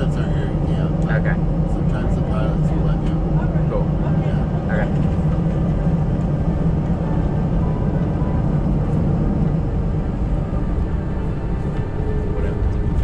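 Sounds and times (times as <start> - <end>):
jet engines idling in cabin: 0.0 - 13.0.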